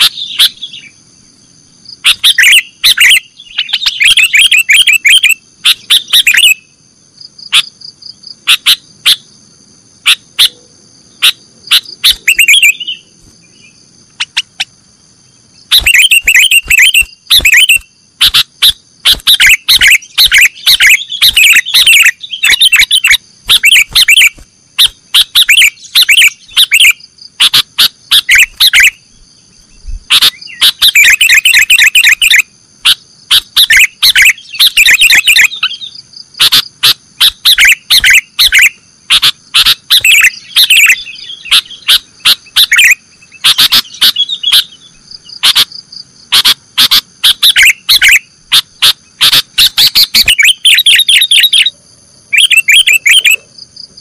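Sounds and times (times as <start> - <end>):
bird singing rapid chirps: 0.0 - 1.0, 1.7 - 9.4, 10.0 - 54.0.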